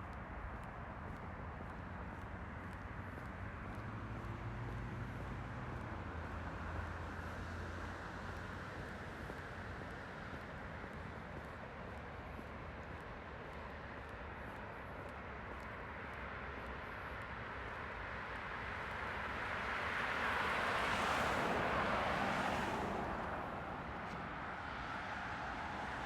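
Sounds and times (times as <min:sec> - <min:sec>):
outdoor traffic hum: 0:00.0 - 0:26.0.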